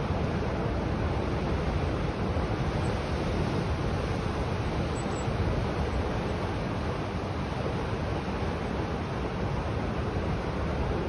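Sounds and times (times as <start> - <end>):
rough sea surf breaking: 0.0 - 11.0.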